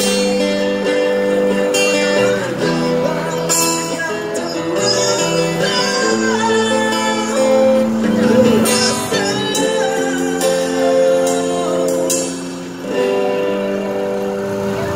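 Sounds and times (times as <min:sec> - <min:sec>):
man singing a ballad: 0:00.0 - 0:13.0
strummed acoustic guitar: 0:00.0 - 0:14.9.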